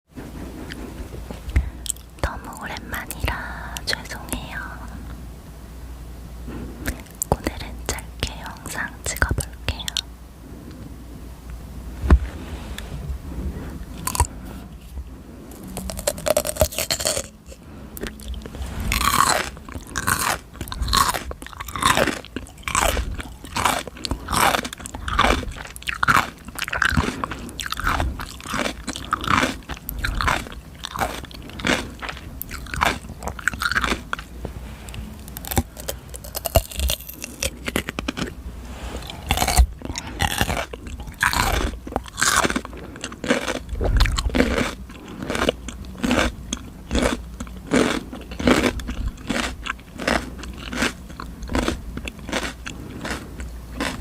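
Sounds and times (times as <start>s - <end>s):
chewing crisp cucumber: 0.6s - 4.4s, 6.8s - 10.1s, 13.8s - 14.9s, 15.5s - 54.0s.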